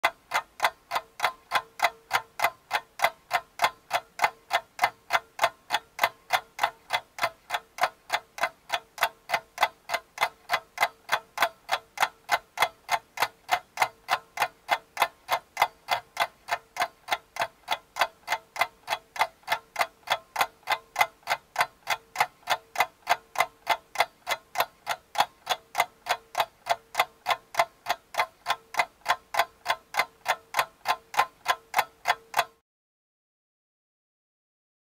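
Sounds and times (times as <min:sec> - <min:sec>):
clock ticking: 0:00.0 - 0:32.6.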